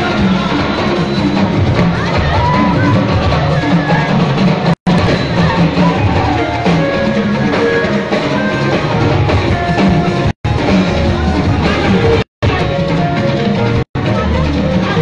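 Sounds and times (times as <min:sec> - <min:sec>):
church band music: 0:00.0 - 0:15.0.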